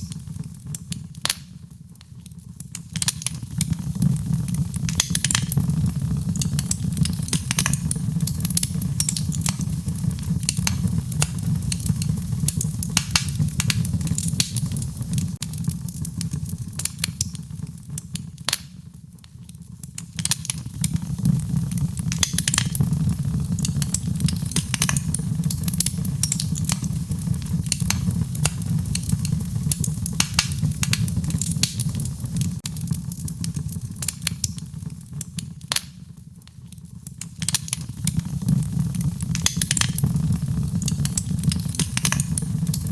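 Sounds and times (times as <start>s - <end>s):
fire crackling and popping: 0.0s - 42.9s
fire roaring: 2.6s - 18.0s, 20.0s - 35.2s, 37.5s - 42.9s.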